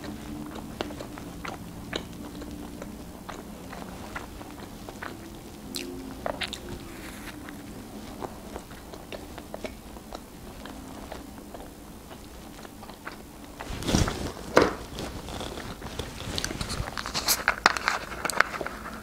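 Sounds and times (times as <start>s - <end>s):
mouth chewing: 0.0s - 19.0s.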